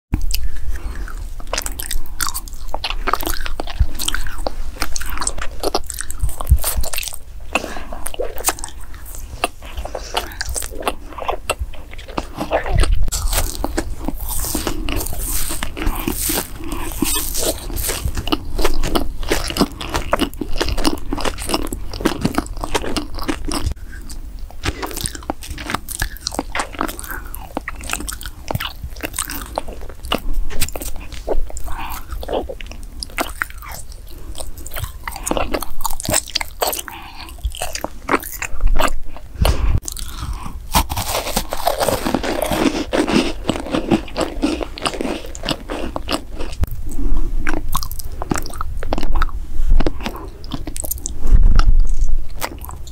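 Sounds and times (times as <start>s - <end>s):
crunchy chewing: 0.2s - 52.9s.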